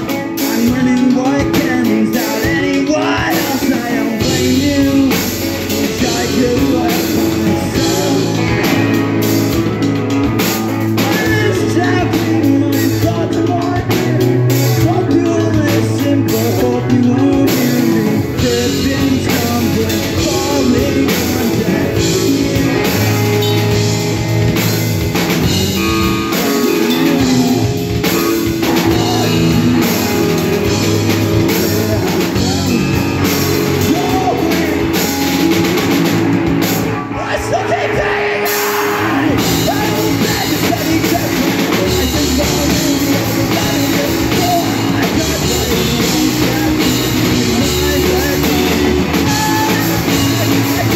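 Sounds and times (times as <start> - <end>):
person singing: 0.0 - 9.8, 10.8 - 24.4, 25.2 - 50.9
bass guitar: 0.0 - 50.9
drum kit: 0.0 - 50.9
electric guitar: 0.0 - 50.9.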